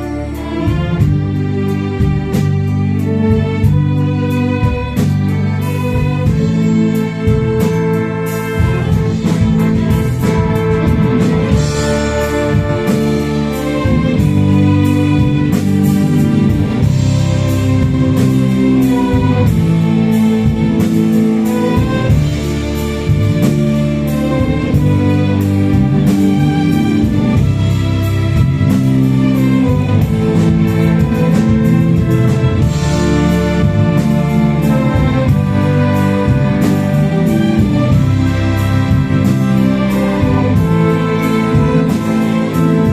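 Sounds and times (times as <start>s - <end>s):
orchestra playing sustained chords: 0.0s - 42.9s.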